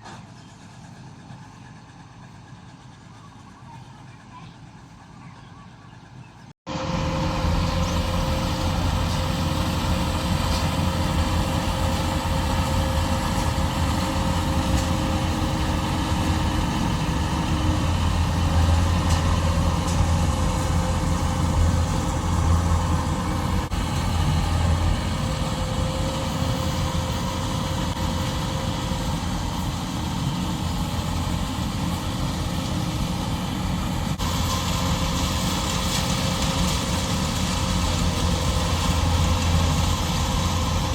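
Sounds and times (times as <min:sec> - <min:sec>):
combine harvester engine humming: 0:00.0 - 0:40.9.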